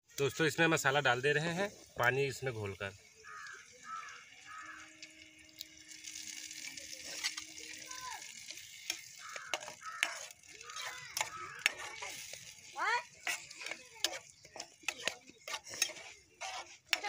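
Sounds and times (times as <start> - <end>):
sizzling in hot oil: 0.1 - 17.0
spoon scraping a pan: 3.1 - 17.0.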